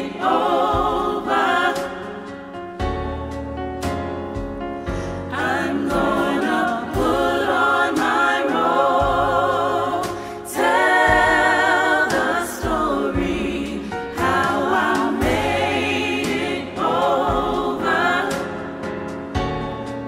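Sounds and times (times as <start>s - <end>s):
gospel ensemble singing in harmony: 0.0s - 20.0s
instrumental accompaniment with bass: 0.0s - 20.0s.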